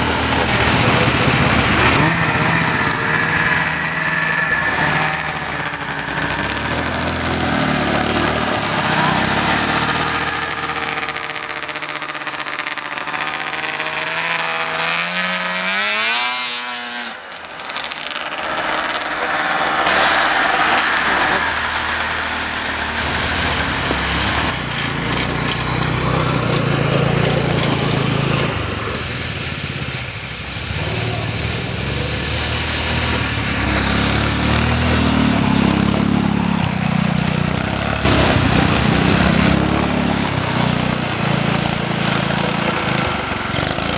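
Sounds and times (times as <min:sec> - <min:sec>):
snowmobile engine droning: 0:00.0 - 0:43.9.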